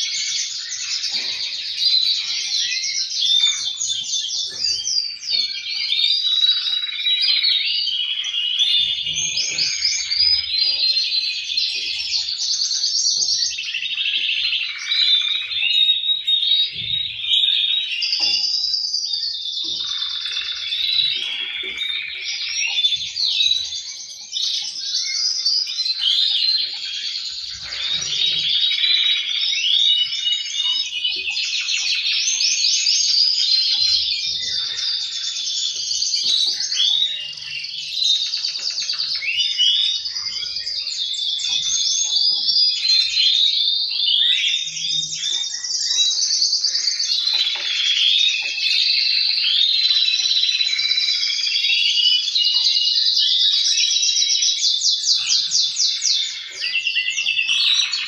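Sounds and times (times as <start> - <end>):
canaries singing: 0.0 - 58.0.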